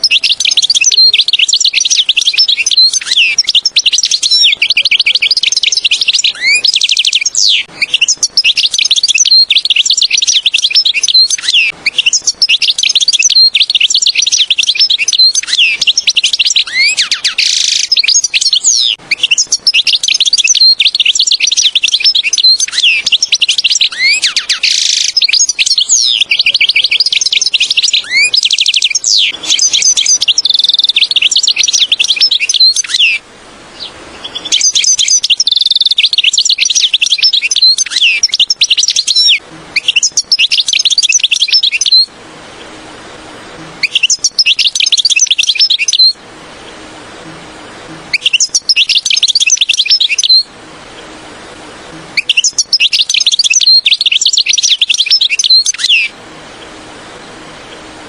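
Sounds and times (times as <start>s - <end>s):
goldfinch twittering song: 0.0s - 42.1s, 43.8s - 46.2s, 48.1s - 50.5s, 52.2s - 56.2s.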